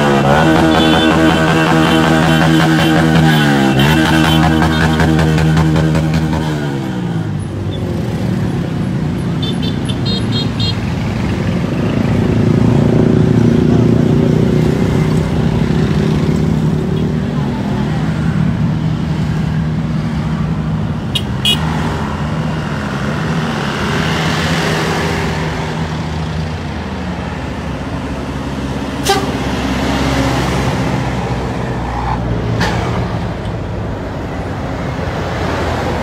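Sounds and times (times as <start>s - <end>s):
vehicles driving past: 0.0s - 36.0s.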